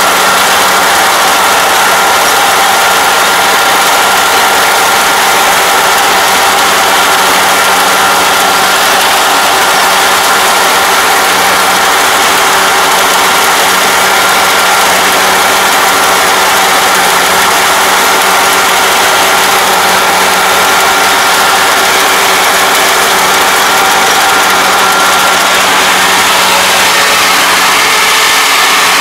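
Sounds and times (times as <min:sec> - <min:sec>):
combine harvester running: 0:00.0 - 0:29.0
constant mechanical whine: 0:00.0 - 0:29.0.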